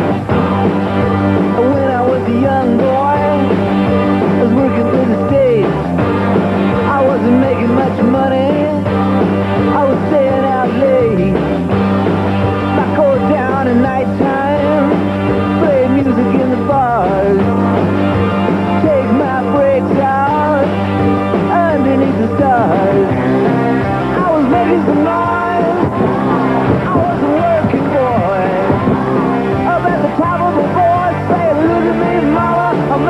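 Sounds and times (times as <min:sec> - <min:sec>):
rock music: 0:00.0 - 0:33.0.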